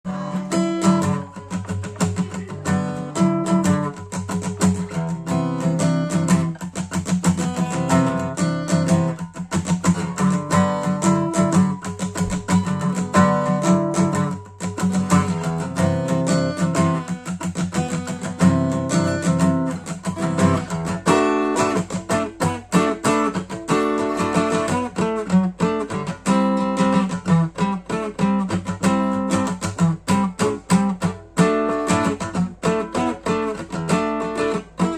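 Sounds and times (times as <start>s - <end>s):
acoustic guitar fingerpicking: 0.1s - 34.9s.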